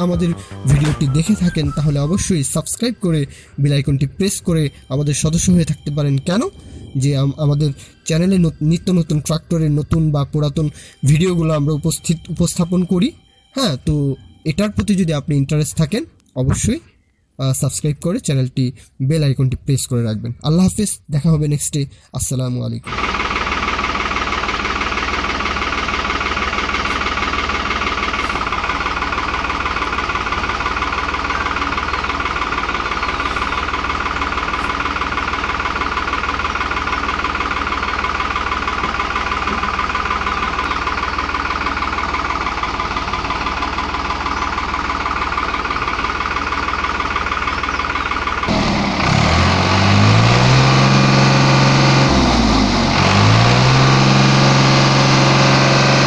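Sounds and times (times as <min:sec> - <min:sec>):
tractor diesel engine idling: 0:00.0 - 0:16.8, 0:22.9 - 0:56.0.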